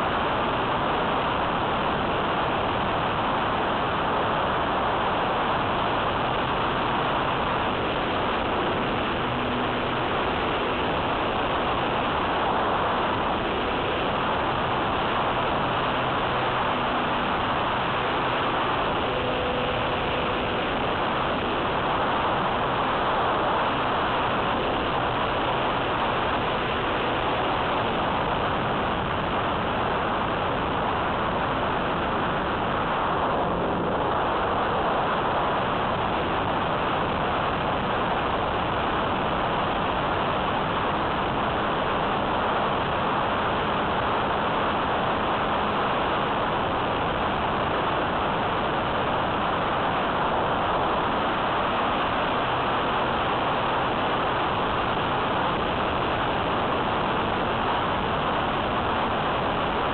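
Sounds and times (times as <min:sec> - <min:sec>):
airflow and propeller noise: 0:00.0 - 0:59.9.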